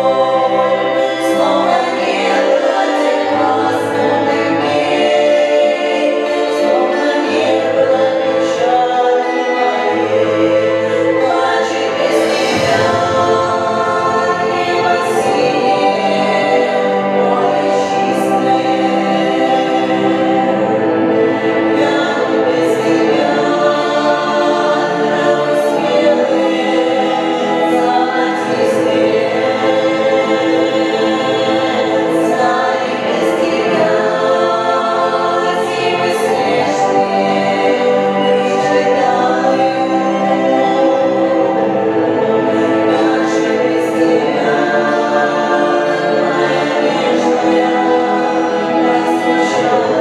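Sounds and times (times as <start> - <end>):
female vocal trio singing: 0.0 - 50.0.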